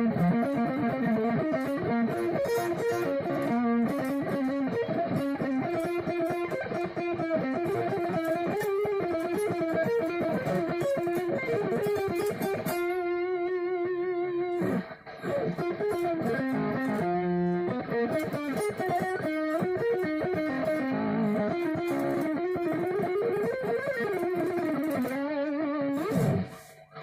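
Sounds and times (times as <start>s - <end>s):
electric guitar lead: 0.0s - 27.0s.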